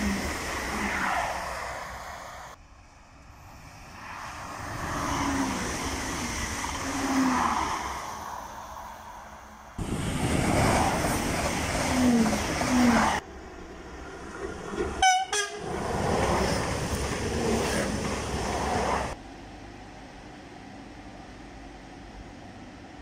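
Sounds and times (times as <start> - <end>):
trains passing at speed: 0.0 - 23.0.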